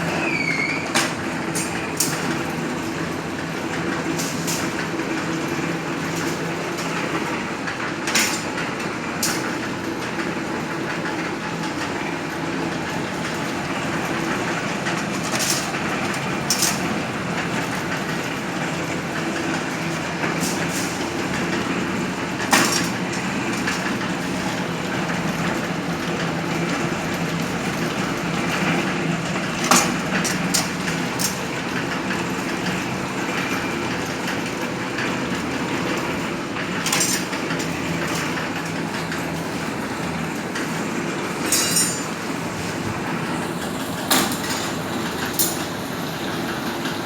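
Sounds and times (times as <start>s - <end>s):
wire bending machine running: 0.0s - 47.0s.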